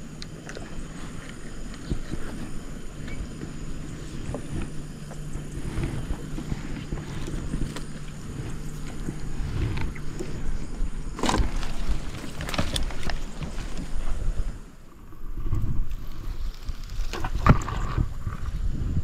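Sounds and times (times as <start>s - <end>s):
engine humming and rumbling: 0.0s - 19.0s.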